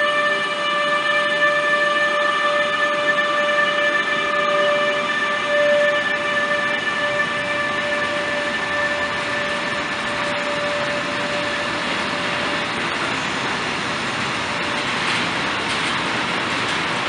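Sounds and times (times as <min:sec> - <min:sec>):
steady high tone: 0:00.0 - 0:13.9
freight train wheels rumbling: 0:00.0 - 0:17.0.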